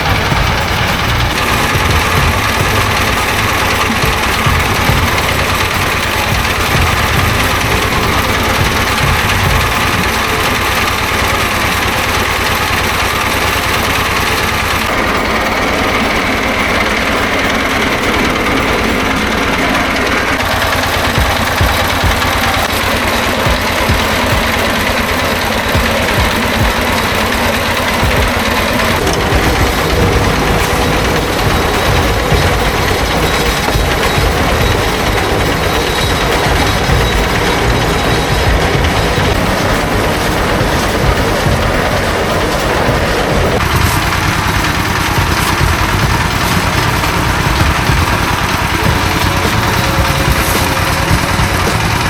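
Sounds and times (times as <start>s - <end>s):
construction machine engine running: 0.0s - 52.0s.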